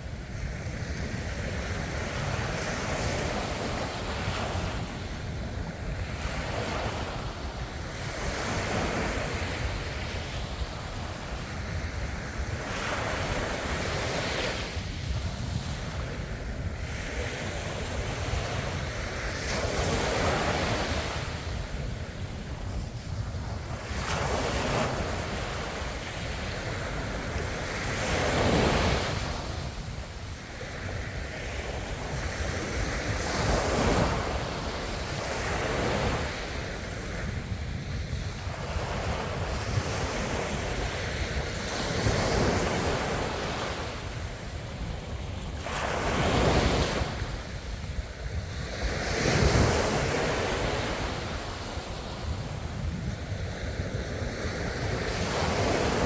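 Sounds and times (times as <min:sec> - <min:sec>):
ocean waves breaking on shore: 0:00.0 - 0:56.0
wind on microphone: 0:00.0 - 0:56.0.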